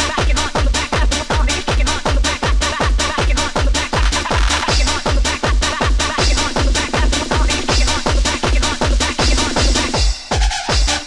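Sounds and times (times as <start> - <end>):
electronic dance music: 0.0 - 11.0
kick drum beat: 0.0 - 11.0.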